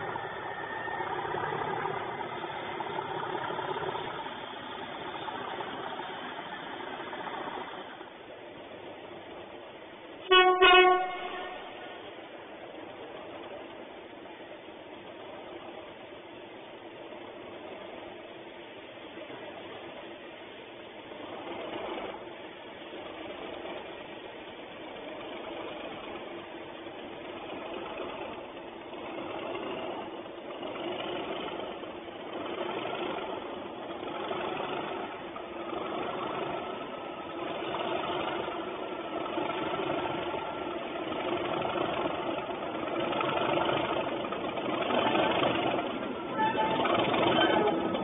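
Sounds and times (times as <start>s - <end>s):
diesel locomotive engines: 0.0s - 48.0s.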